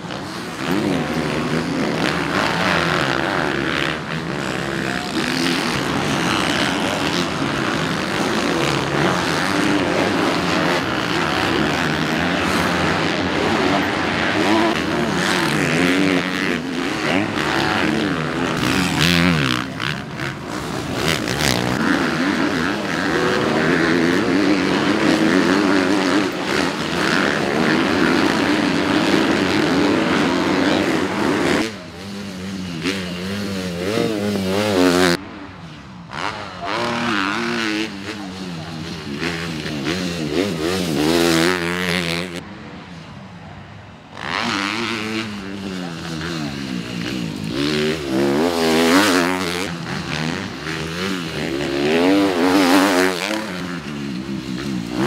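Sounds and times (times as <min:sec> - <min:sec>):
motocross bike engine revving: 0:00.0 - 0:43.1, 0:44.1 - 0:55.0.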